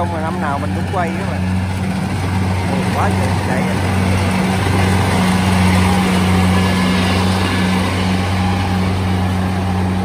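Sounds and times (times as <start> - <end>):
combine harvester engine humming: 0.0 - 10.0
cutting and threshing machinery churning: 0.0 - 10.0.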